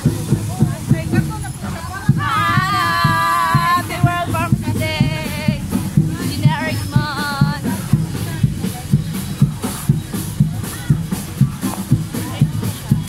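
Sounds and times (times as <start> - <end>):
parade drum beat: 0.0 - 13.0
women calling and singing: 0.0 - 13.0.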